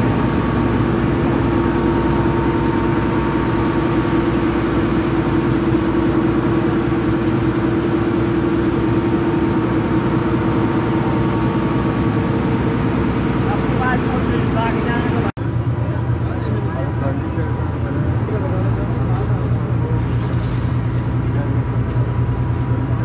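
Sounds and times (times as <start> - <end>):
ferry engine humming: 0.0 - 23.0.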